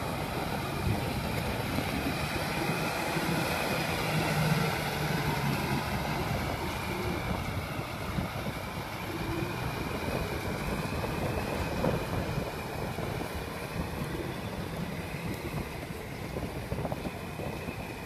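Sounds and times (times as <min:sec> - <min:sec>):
rotary tiller churning water: 0:00.0 - 0:18.0
tractor diesel engine running: 0:00.0 - 0:18.0.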